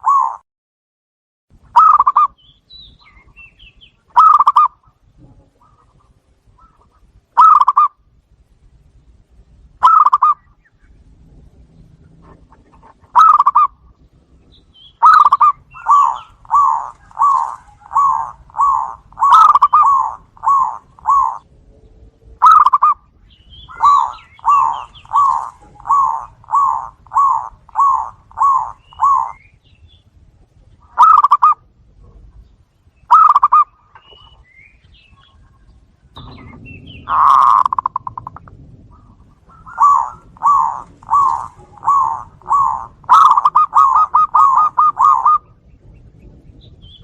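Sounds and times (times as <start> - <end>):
doves cooing: 0.0 - 0.4, 1.8 - 2.4, 4.1 - 8.0, 9.8 - 11.1, 11.8 - 21.7, 22.3 - 29.5, 30.8 - 32.4, 33.1 - 34.4, 35.1 - 47.0.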